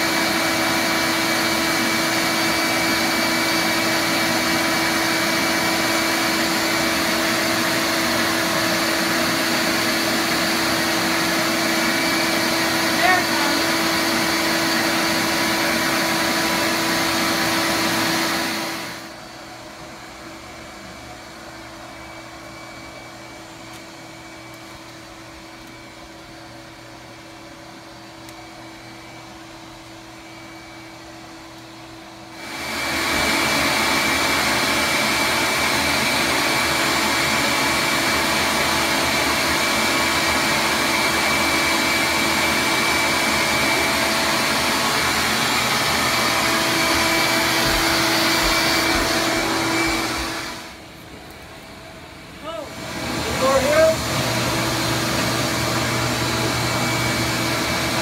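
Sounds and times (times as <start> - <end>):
vacuum motor whirring: 0.0 - 58.0.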